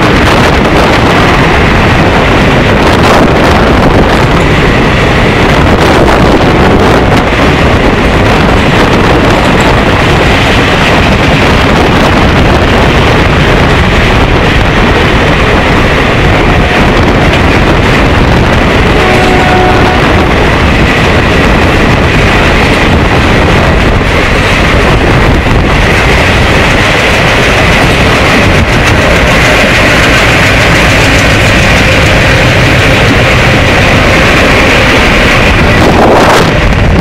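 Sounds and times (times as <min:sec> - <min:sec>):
train rushing at speed: 0:00.0 - 0:37.0
wind buffeting microphone: 0:00.0 - 0:37.0.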